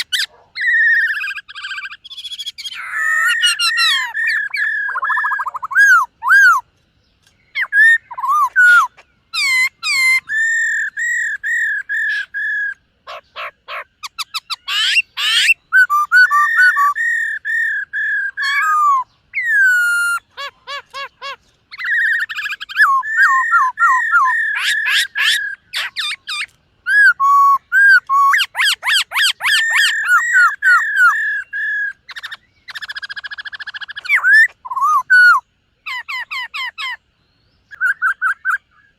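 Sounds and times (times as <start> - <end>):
bird singing whistled phrases: 0.0 - 6.7, 7.5 - 37.0, 37.6 - 38.9.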